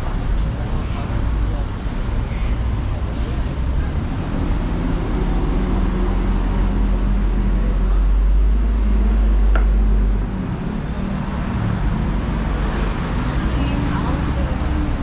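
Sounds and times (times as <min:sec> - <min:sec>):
street traffic: 0:00.0 - 0:15.0
vehicle engine rumble: 0:00.0 - 0:15.0.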